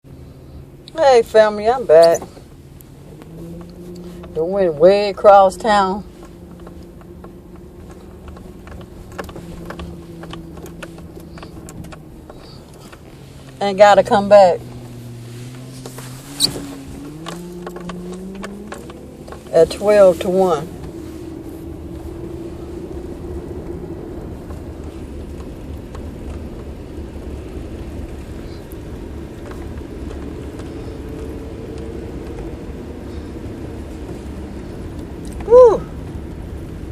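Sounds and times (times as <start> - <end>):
car road and engine rumble: 0.0 - 36.9
vehicle hum: 0.0 - 36.9
light clicks and creaks: 0.1 - 36.9.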